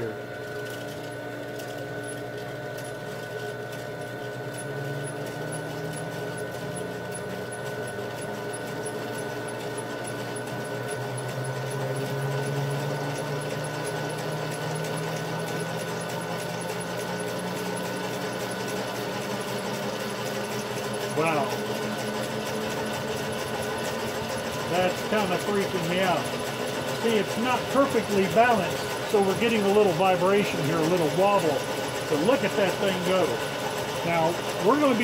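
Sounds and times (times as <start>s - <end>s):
motor hum: 0.0s - 35.0s.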